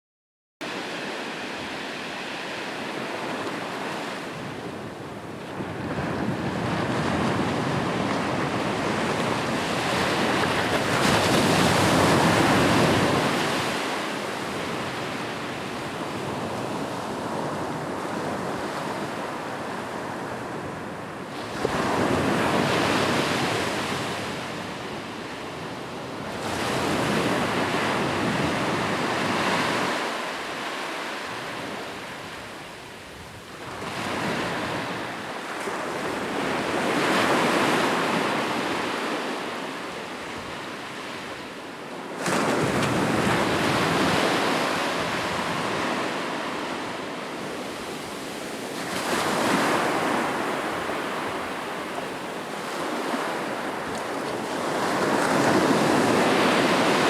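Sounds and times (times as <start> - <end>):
ocean surf breaking on beach: 0.6 - 57.0.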